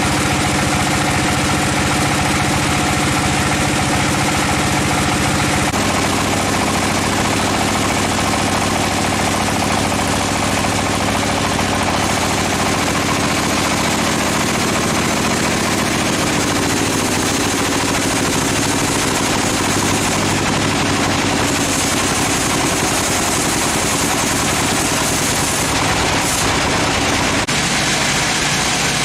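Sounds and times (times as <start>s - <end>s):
fast even rattle: 0.0s - 29.0s
sawmill machinery droning: 0.0s - 29.0s.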